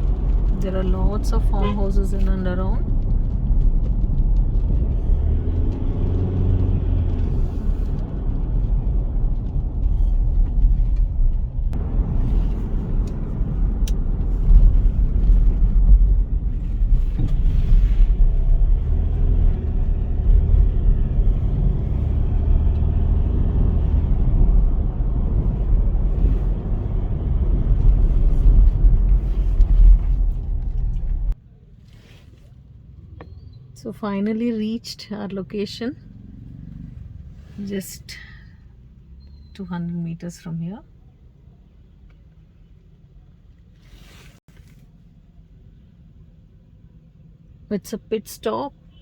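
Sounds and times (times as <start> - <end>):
car engine rumble: 0.0 - 49.0
road noise: 0.0 - 49.0.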